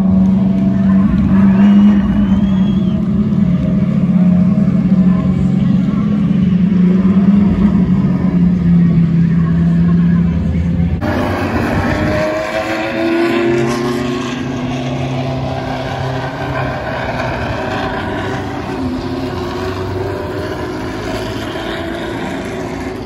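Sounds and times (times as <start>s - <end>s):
racing car engines passing: 0.0s - 23.0s.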